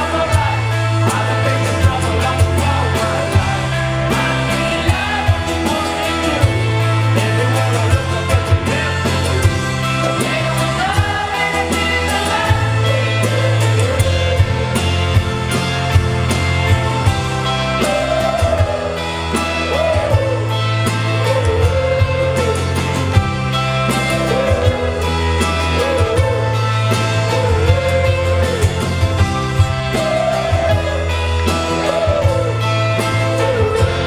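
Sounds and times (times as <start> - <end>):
man singing: 0.0 - 15.9, 17.0 - 34.0
live rock band playing: 0.0 - 34.0.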